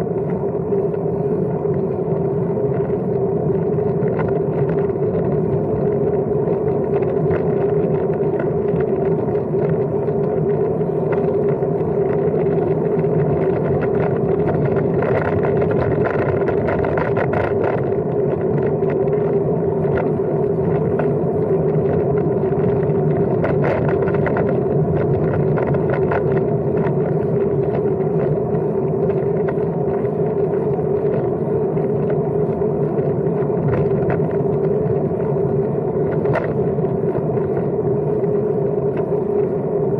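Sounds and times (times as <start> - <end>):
bicycle rolling: 0.0 - 39.9
constant hum: 0.0 - 39.9.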